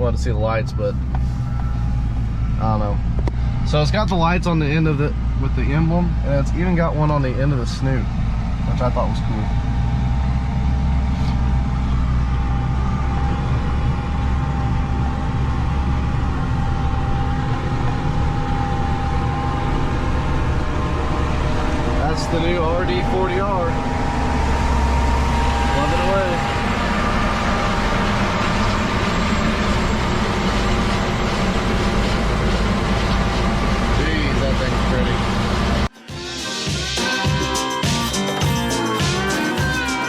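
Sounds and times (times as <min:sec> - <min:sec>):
combine harvester engine drone: 0:00.0 - 0:40.0
steady whine: 0:00.0 - 0:40.0.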